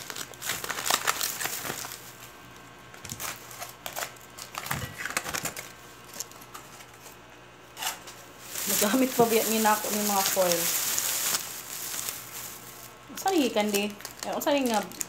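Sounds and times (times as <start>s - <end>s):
aluminium foil crinkling: 0.0s - 7.2s, 7.8s - 15.0s.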